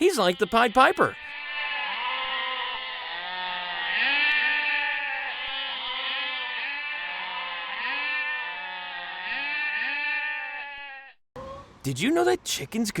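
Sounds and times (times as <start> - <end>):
flock bleating: 0.0 - 11.2.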